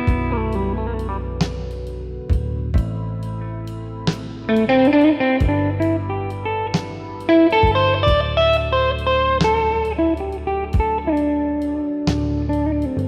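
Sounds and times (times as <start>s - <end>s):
picked melody over bass notes: 0.0s - 13.0s.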